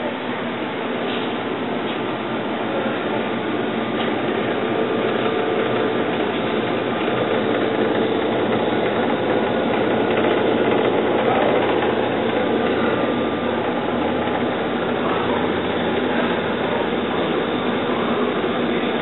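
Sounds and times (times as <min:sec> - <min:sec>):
oven fan whirring hum: 0:00.0 - 0:19.0.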